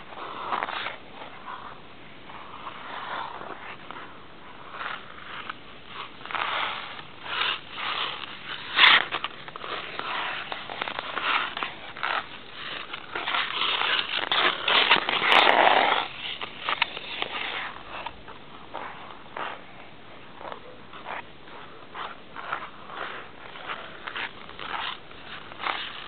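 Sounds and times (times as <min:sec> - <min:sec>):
ice skate blades scraping: 0:00.0 - 0:26.0.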